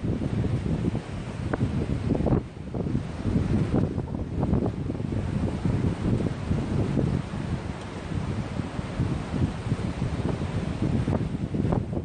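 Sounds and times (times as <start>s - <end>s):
sea surf: 0.0s - 12.0s
wind buffeting microphone: 0.0s - 12.0s.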